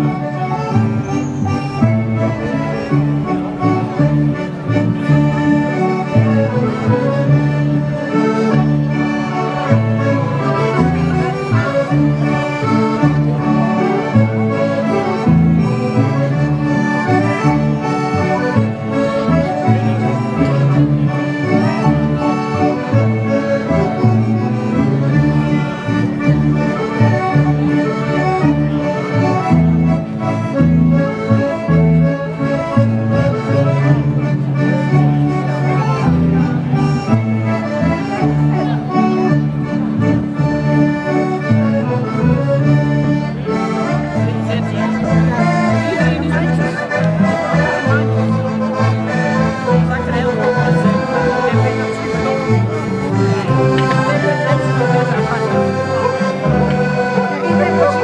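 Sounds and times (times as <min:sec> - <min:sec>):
accordion folk-dance music: 0:00.0 - 0:58.0.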